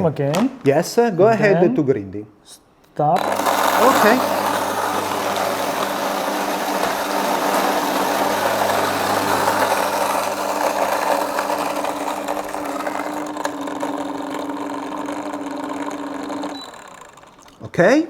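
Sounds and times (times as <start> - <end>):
coffee grinder motor hum: 3.2 - 17.7.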